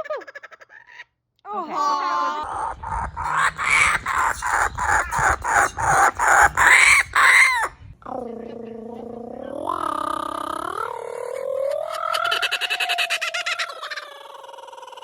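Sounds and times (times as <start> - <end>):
kookaburra laughing: 1.7 - 15.0.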